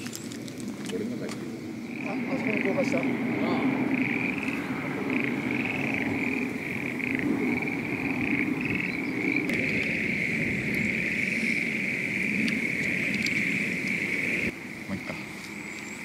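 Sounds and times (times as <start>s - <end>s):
frogs calling in chorus: 1.2s - 16.0s.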